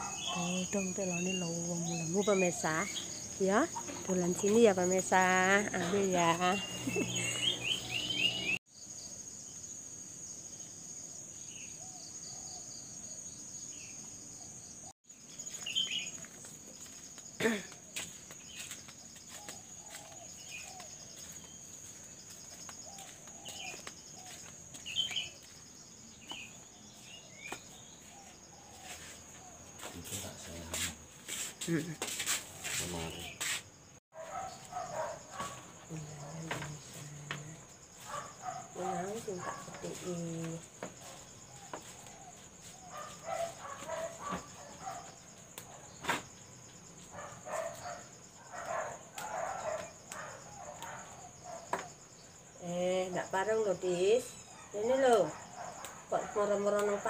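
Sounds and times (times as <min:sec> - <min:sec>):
high insect trill: 0:00.0 - 0:57.0.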